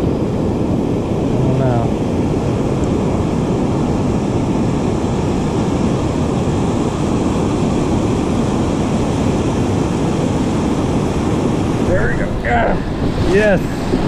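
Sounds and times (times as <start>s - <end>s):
breaking surf: 0.0s - 14.0s
wind rumbling on microphone: 0.0s - 14.0s.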